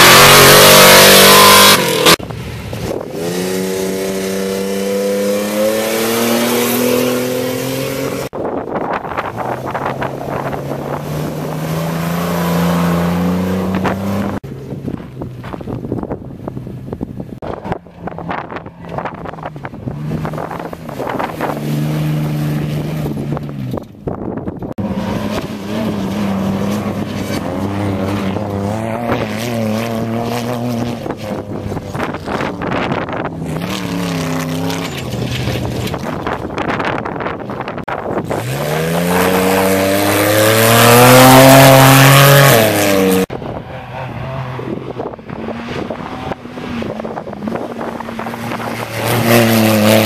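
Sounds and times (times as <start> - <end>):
truck engines revving: 0.0 - 50.0.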